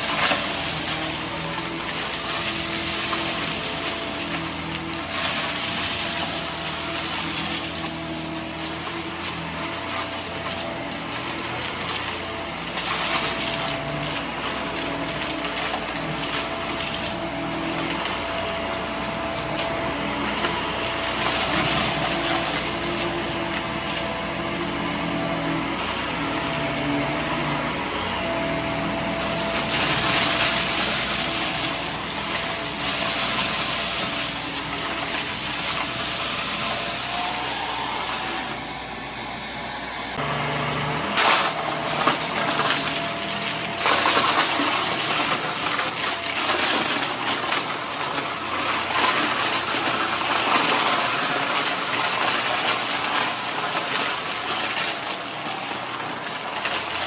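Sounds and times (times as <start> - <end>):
vacuum cleaner suction rushing: 0.0 - 57.0
vacuum motor hum: 0.0 - 57.0.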